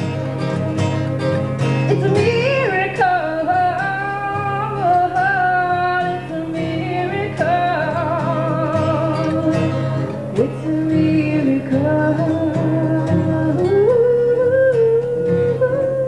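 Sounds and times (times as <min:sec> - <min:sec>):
strummed acoustic guitar: 0:00.0 - 0:16.0
woman singing wordless melody: 0:01.8 - 0:16.0.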